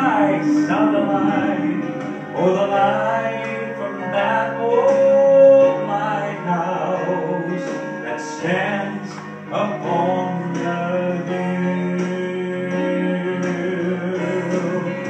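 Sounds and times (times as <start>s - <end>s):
male vocal quartet singing gospel: 0.0s - 15.0s.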